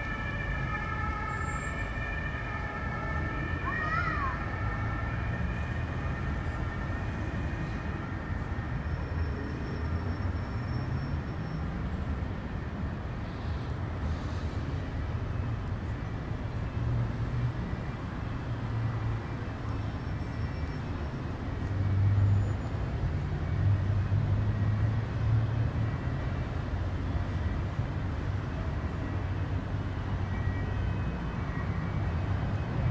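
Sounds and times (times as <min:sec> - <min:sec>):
low rumble of city traffic: 0:00.0 - 0:32.9
vehicles passing: 0:00.0 - 0:32.9.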